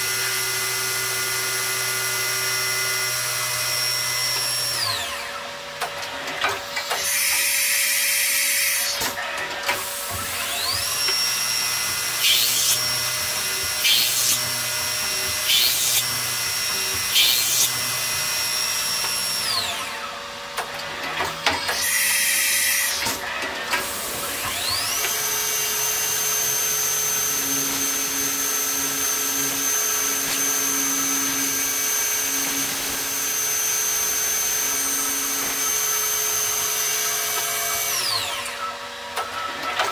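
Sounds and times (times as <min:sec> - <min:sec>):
drilling bursts: 0:00.0 - 0:05.5, 0:06.7 - 0:20.4, 0:21.0 - 0:38.9
end mill cutting: 0:00.0 - 0:39.9
mill spindle whine: 0:00.0 - 0:39.9.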